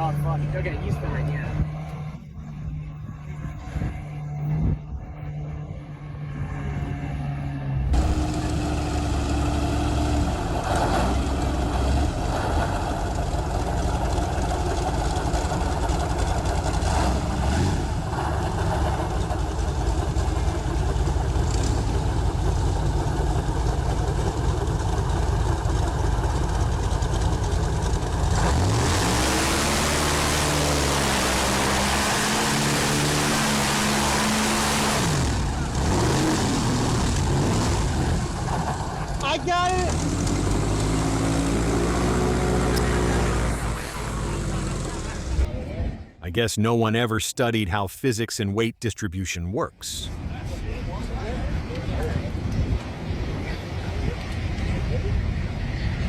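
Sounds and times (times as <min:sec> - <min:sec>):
boat engines running: 0:00.0 - 0:45.5.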